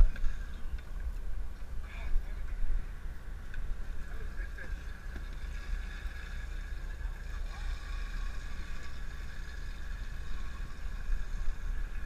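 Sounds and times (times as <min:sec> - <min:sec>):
boat engine running: 0:01.8 - 0:12.0.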